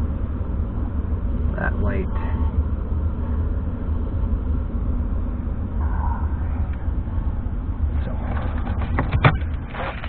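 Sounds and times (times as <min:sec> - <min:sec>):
car engine rumble from inside: 0:00.0 - 0:10.0.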